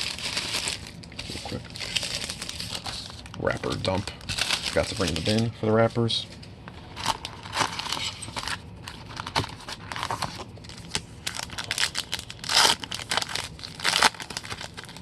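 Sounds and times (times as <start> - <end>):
wrapper ripping: 0.0 - 5.5, 7.0 - 15.0
wrappers crinkling: 0.0 - 5.5, 6.9 - 15.0.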